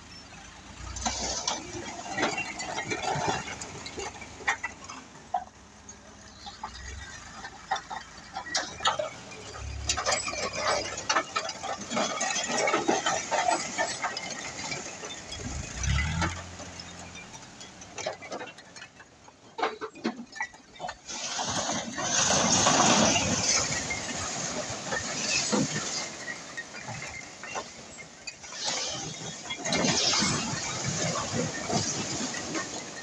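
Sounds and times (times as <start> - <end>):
bricks clattering onto a pile: 6.5 - 33.0.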